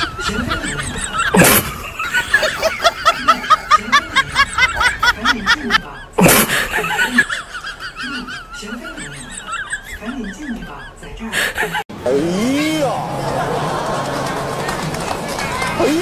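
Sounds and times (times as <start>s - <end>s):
rapid laughter: 0.0s - 11.8s, 13.0s - 16.0s.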